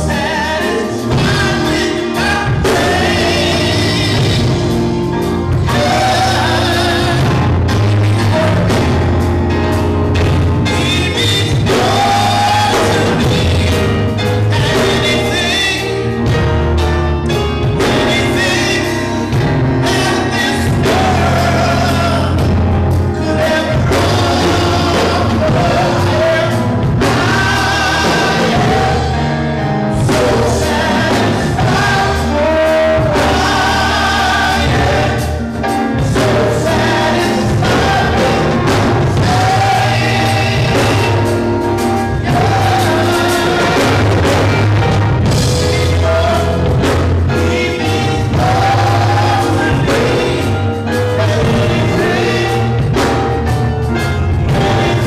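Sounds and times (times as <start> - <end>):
bass: 0.0 - 55.0
drums: 0.0 - 55.0.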